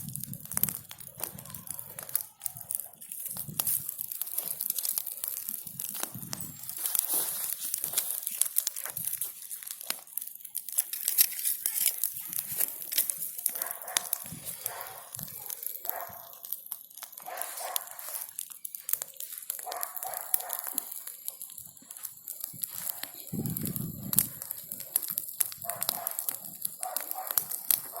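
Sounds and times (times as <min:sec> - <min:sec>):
bonfire crackling and popping: 0:00.0 - 0:28.0.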